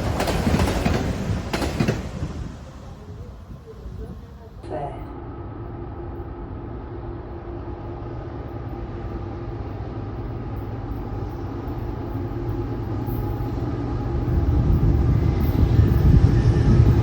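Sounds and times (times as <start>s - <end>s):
diesel train engine rumble: 0.0s - 17.0s.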